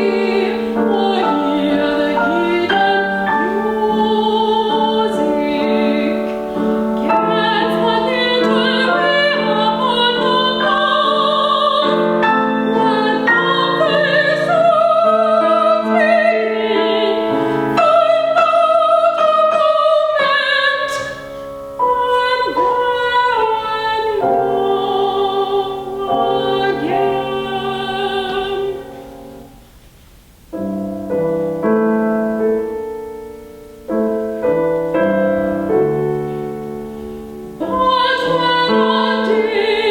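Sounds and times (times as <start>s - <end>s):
soprano singing with vibrato: 0.0s - 29.5s, 34.1s - 39.9s
piano accompaniment: 0.0s - 39.9s.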